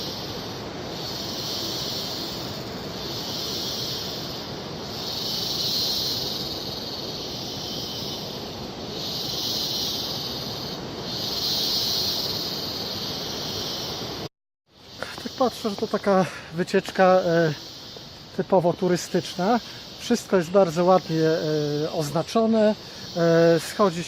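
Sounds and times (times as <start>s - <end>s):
high hissing drone: 0.0s - 24.0s.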